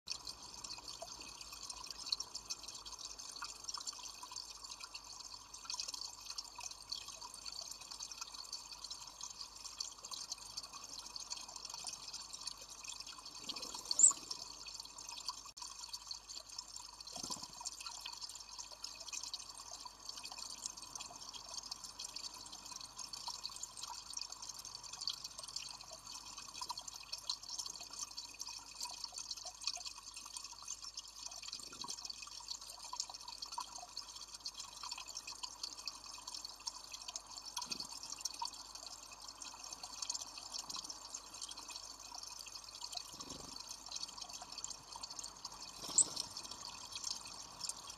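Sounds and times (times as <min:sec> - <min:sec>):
water trickling into a pool: 0:00.1 - 0:47.9.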